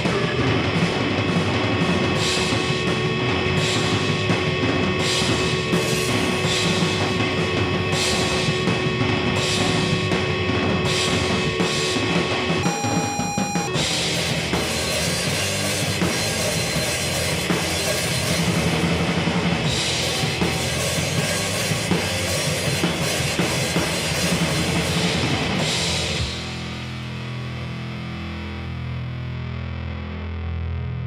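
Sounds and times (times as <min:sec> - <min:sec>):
fast drumming with cymbals: 0:00.0 - 0:26.6
heavy instruments: 0:00.0 - 0:26.7.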